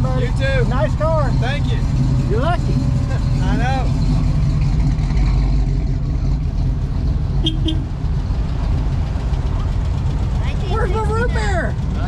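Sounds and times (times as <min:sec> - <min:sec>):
car engines idling in traffic: 0:00.0 - 0:12.0.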